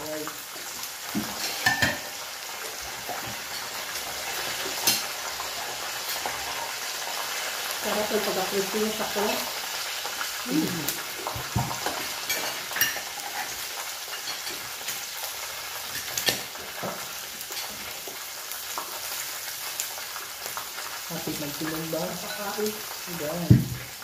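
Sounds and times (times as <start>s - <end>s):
meat sizzling on a grill: 0.0s - 24.0s.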